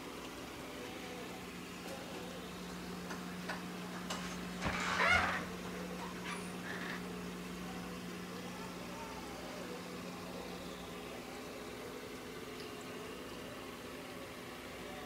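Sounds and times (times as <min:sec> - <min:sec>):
aquarium air pump humming: 0:00.0 - 0:15.0.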